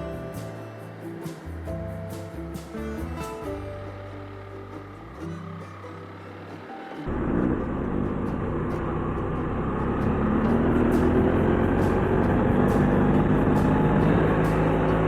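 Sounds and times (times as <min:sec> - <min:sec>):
motorcycle engine accelerating: 0:01.7 - 0:15.0.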